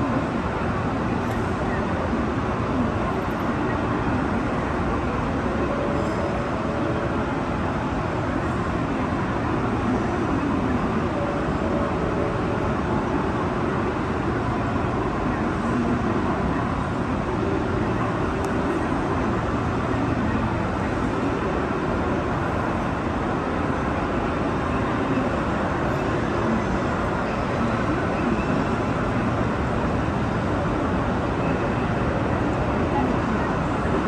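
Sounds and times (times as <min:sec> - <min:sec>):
distant crowd voices: 0:00.0 - 0:34.0
train noise: 0:00.0 - 0:34.0.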